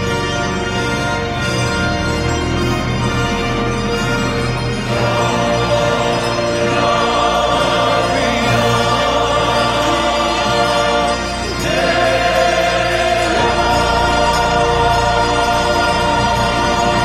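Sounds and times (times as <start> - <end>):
choir singing held notes: 2.8 - 17.0.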